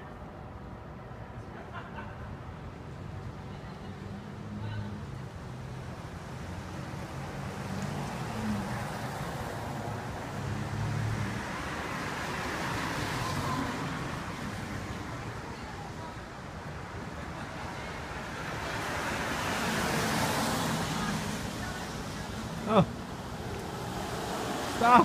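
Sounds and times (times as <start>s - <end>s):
road traffic on wet street: 0.0s - 25.0s.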